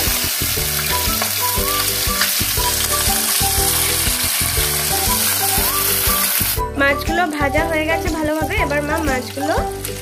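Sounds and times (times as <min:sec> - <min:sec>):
background music: 0:00.0 - 0:10.0
fish sizzling in oil: 0:00.0 - 0:10.0.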